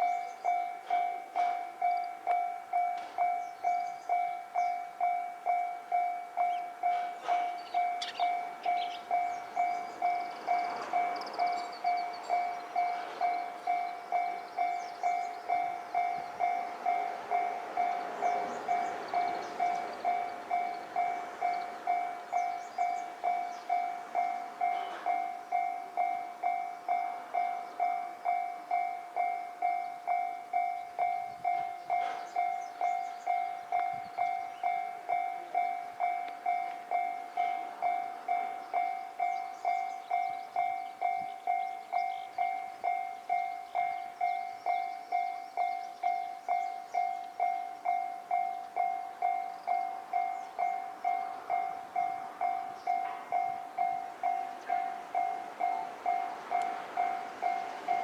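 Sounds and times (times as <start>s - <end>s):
level-crossing warning bell: 0.0s - 58.0s.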